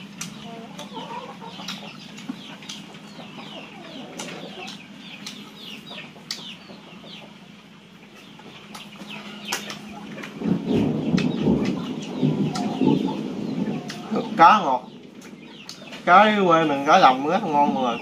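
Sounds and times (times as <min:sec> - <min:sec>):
chickens clucking: 0:00.0 - 0:18.0
low steady hum: 0:00.0 - 0:18.0.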